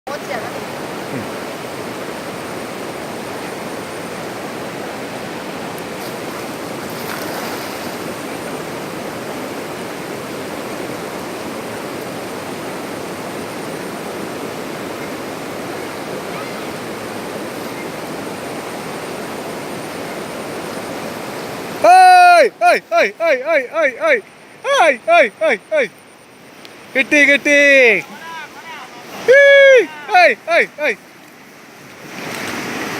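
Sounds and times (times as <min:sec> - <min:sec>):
water flowing: 0:00.1 - 0:32.9.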